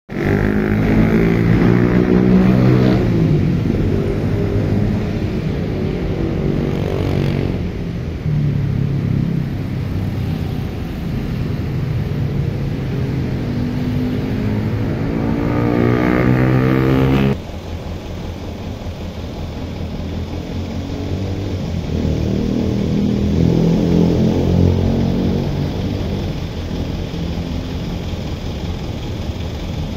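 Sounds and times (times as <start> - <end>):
engine running rising pitch: 0.1 - 29.9
lower engine sound: 0.1 - 29.9.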